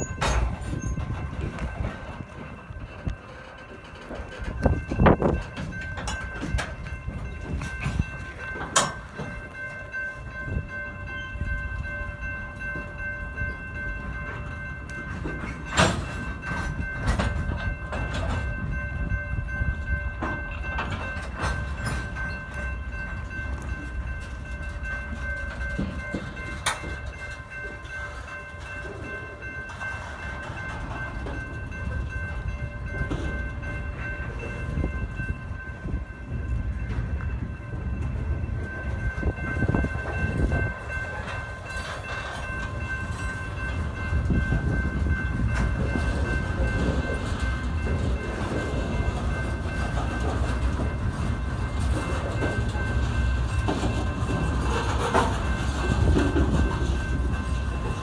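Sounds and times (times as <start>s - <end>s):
steady high ring: 0.0s - 58.0s
train cars clanking: 0.0s - 58.0s
train wheels rumbling on rail: 0.0s - 58.0s.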